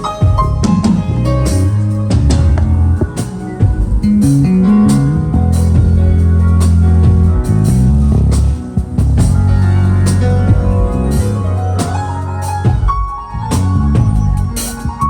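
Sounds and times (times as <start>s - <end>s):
drum kit hits: 0.0s - 15.0s
guitar or keyboard melody: 0.0s - 15.0s
heavy bass line: 0.0s - 15.0s.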